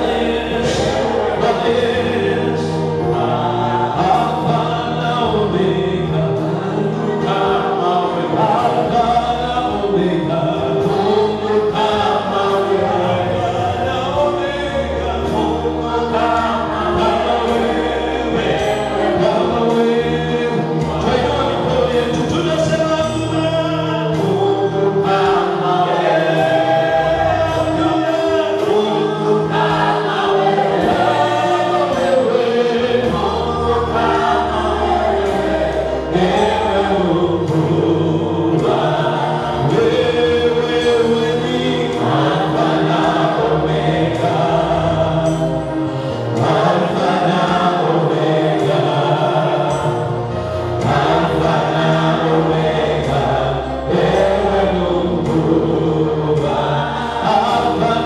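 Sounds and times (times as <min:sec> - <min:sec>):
band playing a steady beat: 0:00.0 - 0:58.0
choir singing: 0:00.0 - 0:58.0
man singing into a microphone: 0:00.0 - 0:58.0.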